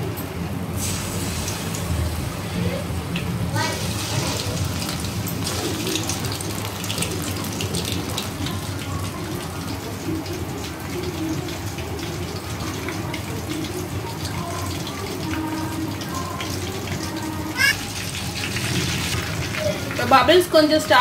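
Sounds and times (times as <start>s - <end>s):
deep-frying sizzle and crackle: 0.0s - 21.0s.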